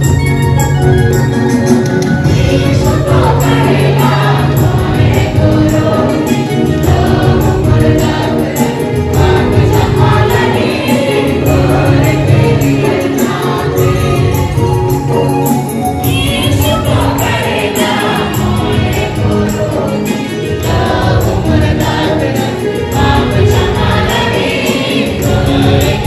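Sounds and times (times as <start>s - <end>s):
instrumental accompaniment with beat: 0.0s - 26.0s
choir singing a hymn: 2.2s - 26.0s.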